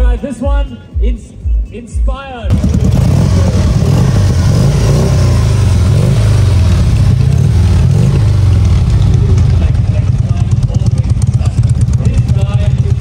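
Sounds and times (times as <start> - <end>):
motorcycle engine revving: 2.5 - 13.0.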